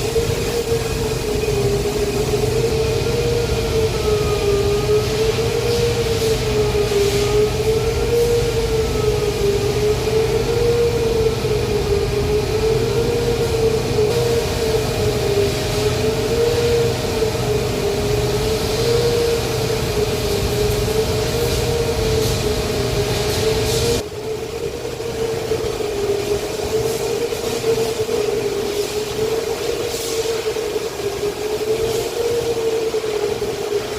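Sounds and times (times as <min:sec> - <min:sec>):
industrial machinery wavering whine: 0:00.0 - 0:33.9
machinery hum and rumble: 0:00.0 - 0:33.9.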